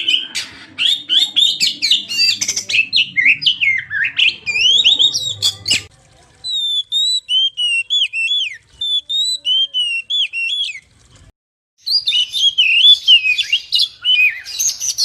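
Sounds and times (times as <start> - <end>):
bird singing chirps and whistles: 0.0 - 5.9, 6.5 - 10.8, 11.8 - 15.0.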